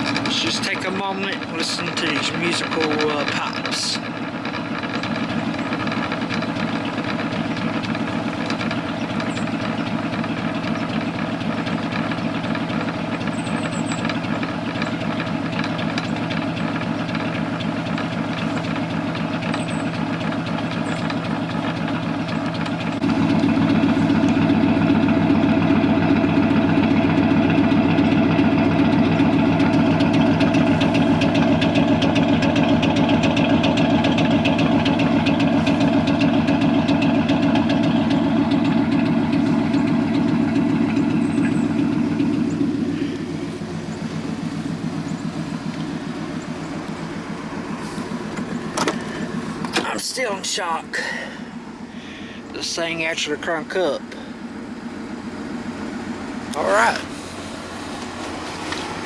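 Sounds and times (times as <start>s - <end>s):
exhaust popping: 0.0s - 59.0s
pickup engine idling: 0.0s - 59.0s.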